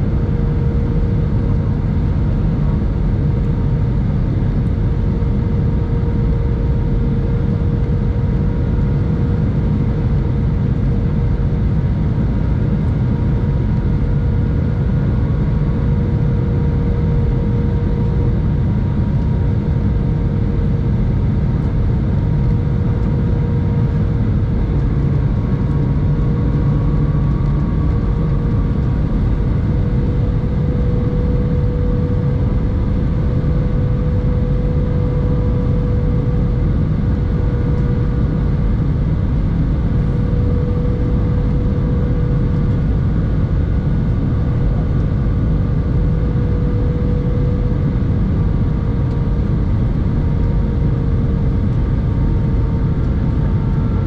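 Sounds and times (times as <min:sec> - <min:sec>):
airflow rushing in cabin: 0:00.0 - 0:54.0
engine hum: 0:00.0 - 0:54.0.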